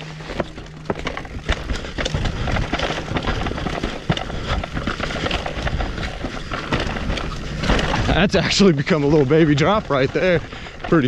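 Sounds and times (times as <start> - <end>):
bike rattling: 0.0 - 11.0
bike tyres crackling on trail: 0.0 - 11.0.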